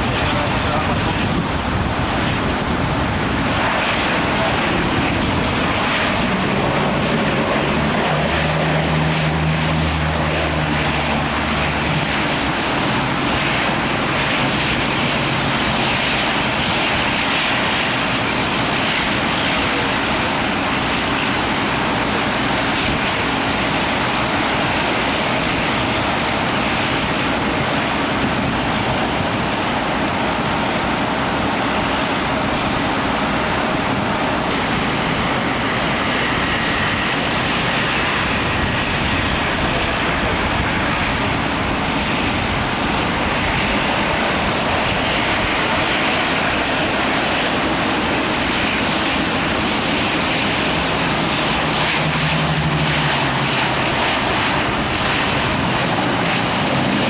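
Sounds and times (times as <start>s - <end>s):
aircraft engines rushing: 0.0s - 57.0s.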